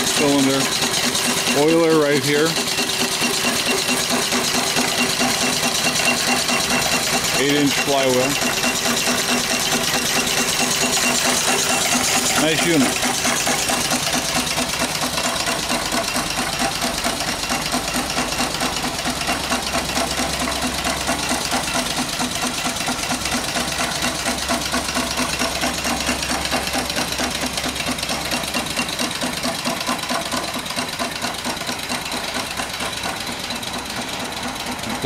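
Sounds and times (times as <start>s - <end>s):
steam engine knocking: 0.0s - 35.0s.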